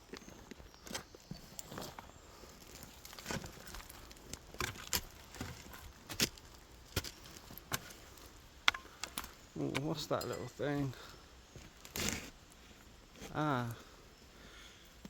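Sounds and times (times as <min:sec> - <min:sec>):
hand tool scraping soil: 0:00.7 - 0:13.7.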